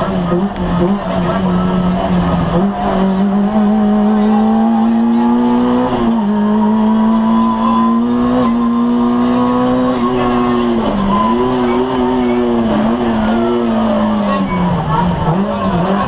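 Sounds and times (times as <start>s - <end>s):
car engine revving high: 0.0s - 16.0s.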